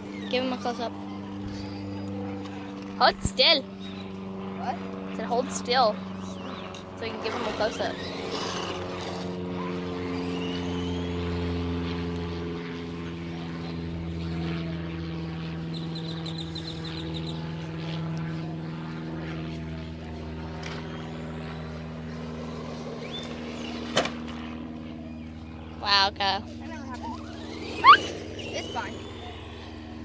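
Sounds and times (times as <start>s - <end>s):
motor hum: 0.0s - 30.0s.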